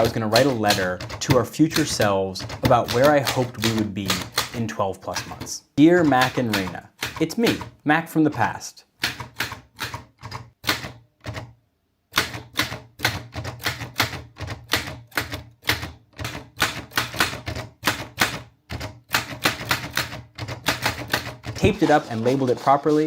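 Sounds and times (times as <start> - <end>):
typewriter key strikes: 0.0 - 11.5, 12.2 - 21.9.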